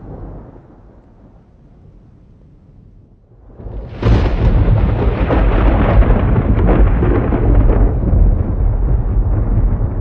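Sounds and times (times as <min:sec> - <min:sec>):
rolling thunder: 0:00.0 - 0:10.0.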